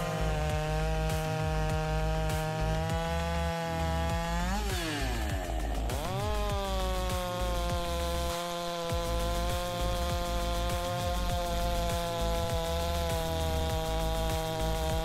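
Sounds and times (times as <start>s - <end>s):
background music with steady beat: 0.0s - 15.0s
chainsaw running at high revs: 0.0s - 15.0s.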